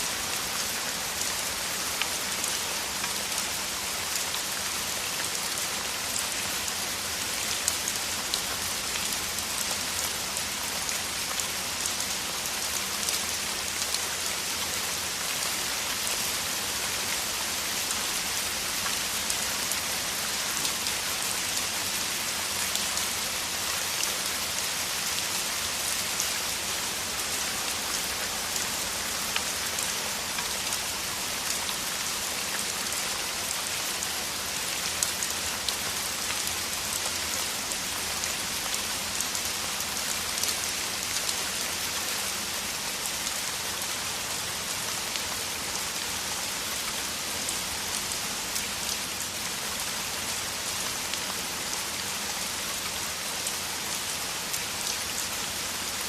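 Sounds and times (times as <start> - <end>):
heavy rain hissing on ground: 0.0 - 56.0.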